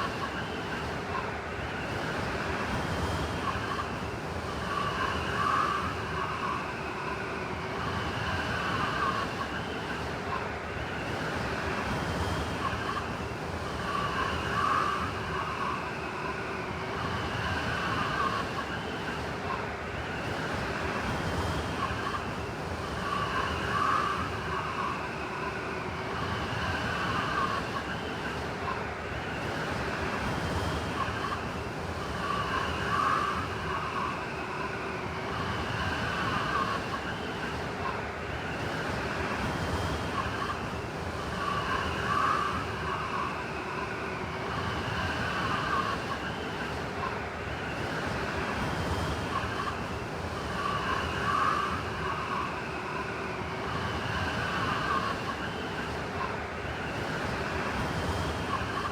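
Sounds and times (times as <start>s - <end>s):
blizzard wind howling: 0.0s - 58.9s.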